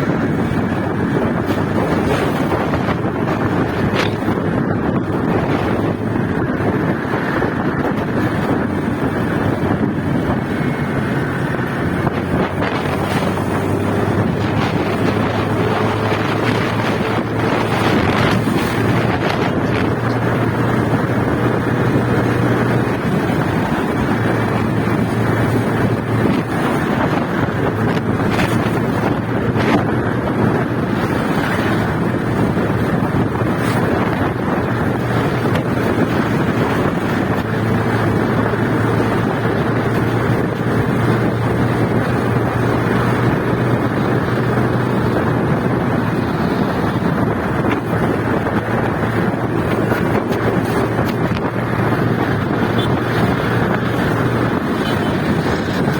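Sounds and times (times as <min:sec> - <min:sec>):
motorcycle engine drone: 0:00.0 - 0:55.9
wind buffeting microphone: 0:00.0 - 0:55.9.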